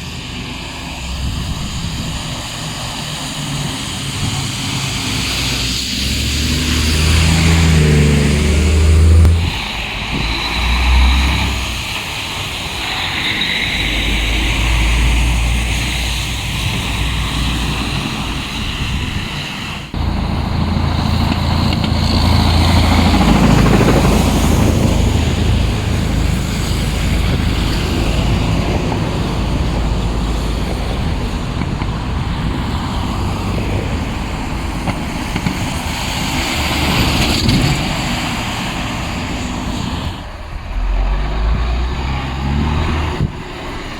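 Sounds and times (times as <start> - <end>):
diesel dump trucks driving past: 0.0 - 43.9
street traffic: 0.0 - 43.9.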